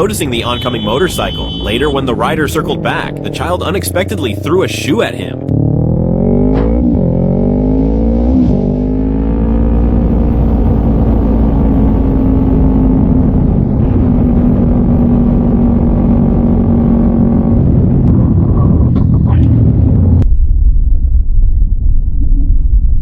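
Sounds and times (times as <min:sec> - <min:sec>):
motorcycle engine accelerating: 0:00.0 - 0:20.3.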